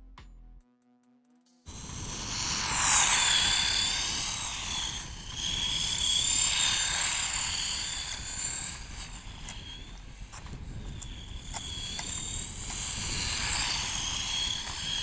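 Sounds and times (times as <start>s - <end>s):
toy car electric motor whining: 1.7s - 15.0s.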